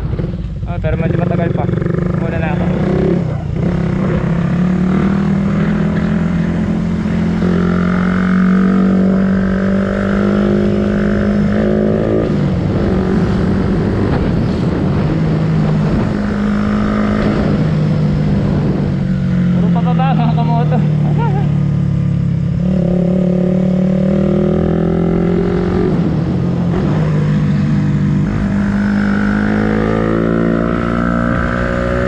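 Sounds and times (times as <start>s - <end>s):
motorcycle engine running: 0.0s - 30.2s.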